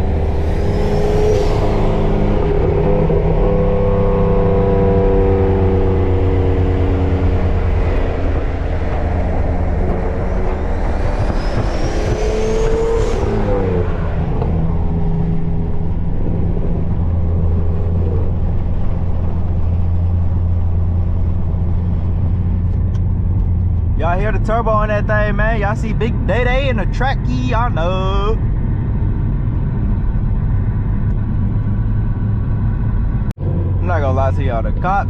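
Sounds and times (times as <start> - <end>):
car engine and road drone: 0.0 - 35.0
high whine: 0.0 - 35.0.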